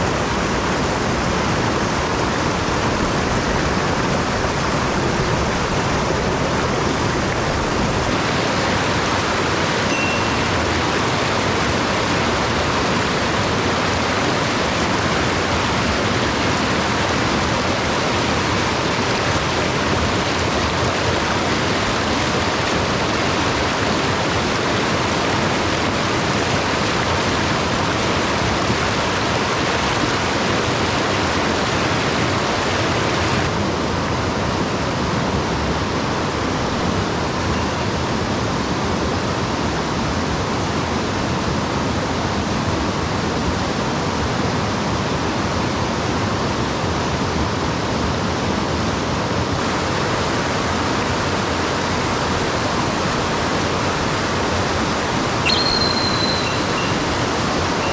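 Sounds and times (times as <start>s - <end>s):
stream rushing: 0.0s - 57.9s.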